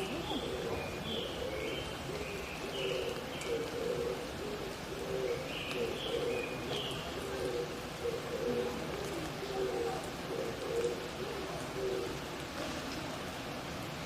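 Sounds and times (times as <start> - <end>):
dove cooing: 0.0 - 13.4.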